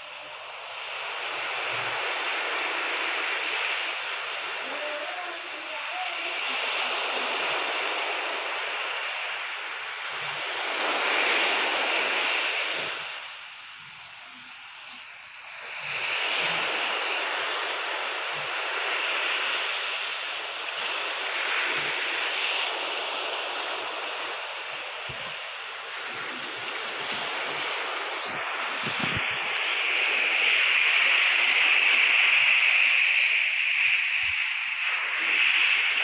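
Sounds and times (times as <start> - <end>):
ocean waves washing: 0.0 - 36.0.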